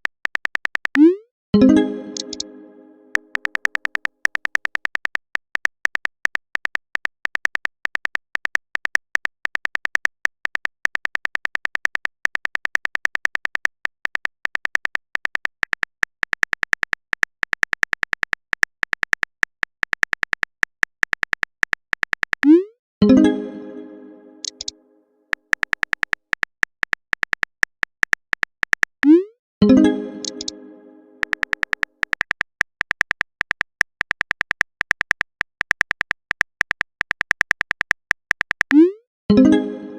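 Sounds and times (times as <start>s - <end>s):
keyboard typing clicks: 0.0s - 23.3s, 24.4s - 39.6s.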